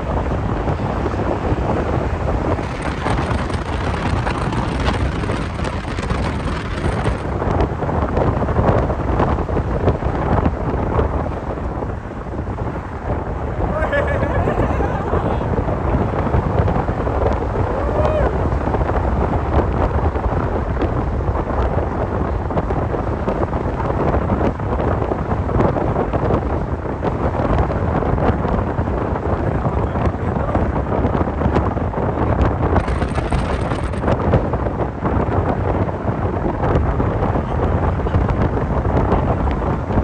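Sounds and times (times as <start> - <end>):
vehicle rumble: 0.0 - 40.0
wind buffeting microphone: 0.0 - 40.0.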